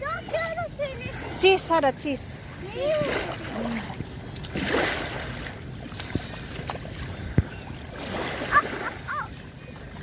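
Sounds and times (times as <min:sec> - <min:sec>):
sea water splashing: 0:00.0 - 0:10.0.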